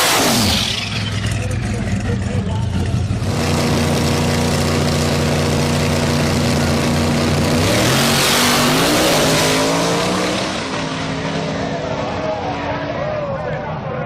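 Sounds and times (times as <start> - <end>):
car engine revving: 0.0 - 13.1.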